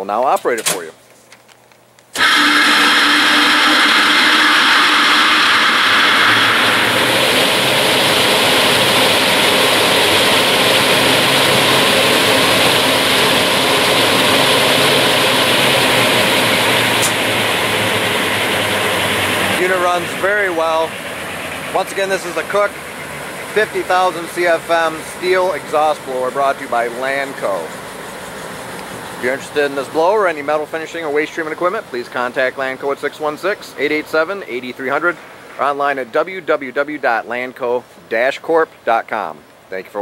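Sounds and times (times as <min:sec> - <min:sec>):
exhaust blower rushing air: 0:02.2 - 0:36.6.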